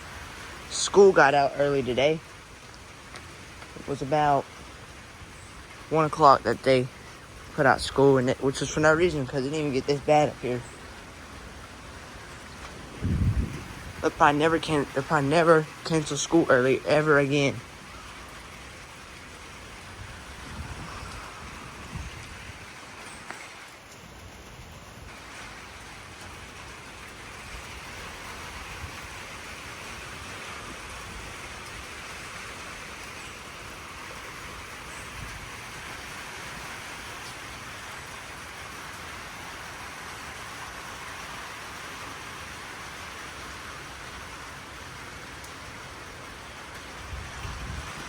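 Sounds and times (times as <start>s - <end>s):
wind gusting across microphone: 0.0s - 38.5s, 46.4s - 48.0s
rain hissing on surfaces: 0.0s - 48.0s.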